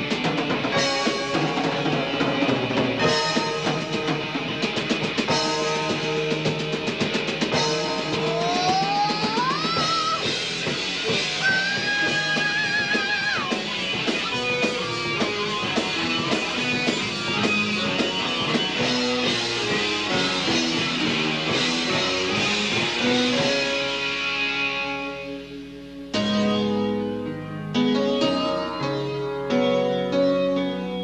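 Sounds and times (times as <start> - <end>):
drum kit: 0.0 - 27.0
electric guitar lead line: 0.0 - 31.0
keyboards: 0.0 - 31.0.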